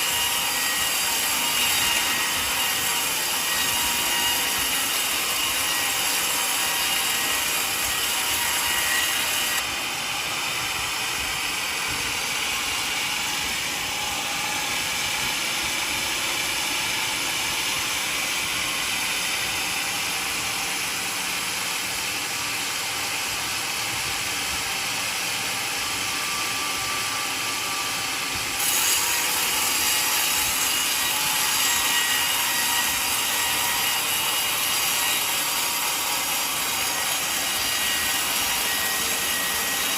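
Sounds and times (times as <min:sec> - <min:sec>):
sawmill blade cutting log: 0:00.0 - 0:39.9.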